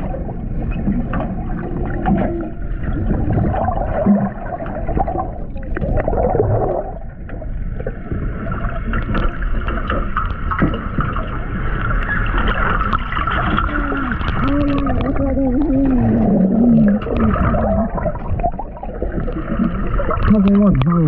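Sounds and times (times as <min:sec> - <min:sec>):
bubbling and gurgling water: 0:00.0 - 0:21.0
low underwater rumble: 0:00.0 - 0:21.0.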